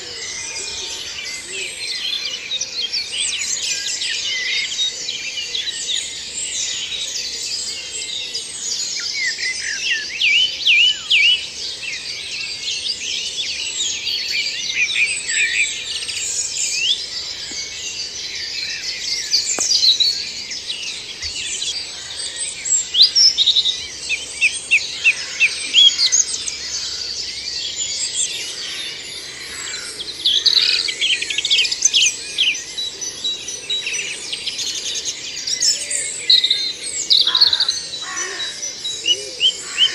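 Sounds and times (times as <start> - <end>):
many songbirds singing: 0.0 - 39.9.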